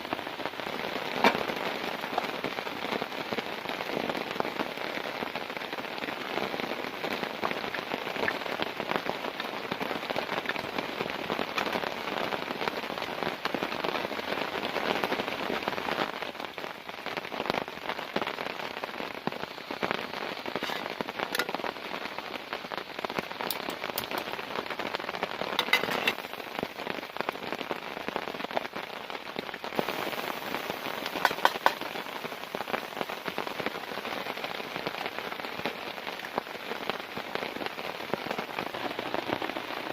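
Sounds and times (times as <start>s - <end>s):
clicks of bigger raindrops: 0.0s - 39.9s
heavy rain on a tent: 0.0s - 39.9s.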